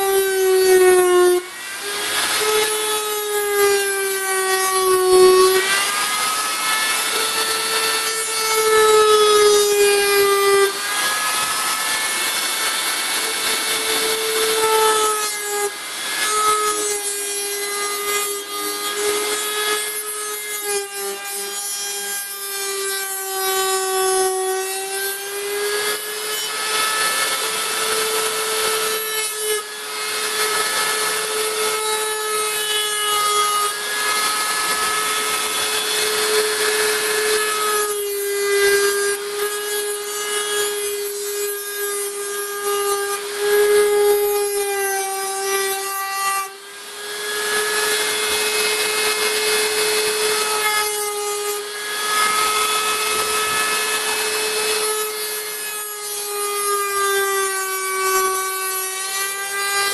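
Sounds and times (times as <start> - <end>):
rotary saw whining: 0.0 - 59.9.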